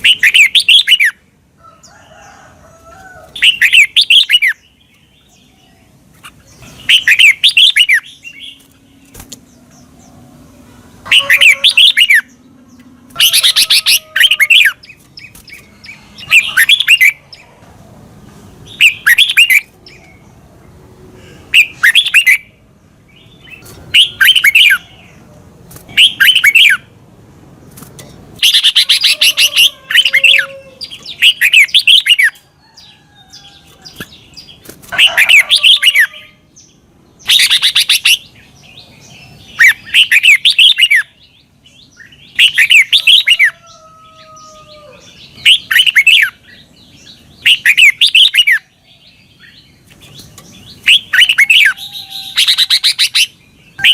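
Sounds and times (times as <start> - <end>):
bird singing warbled phrases: 0.0 - 2.0, 3.2 - 53.9.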